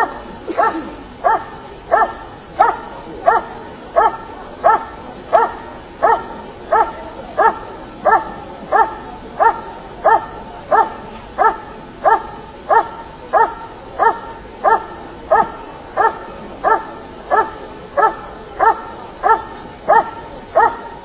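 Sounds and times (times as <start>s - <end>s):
dog barking: 0.0s - 21.0s.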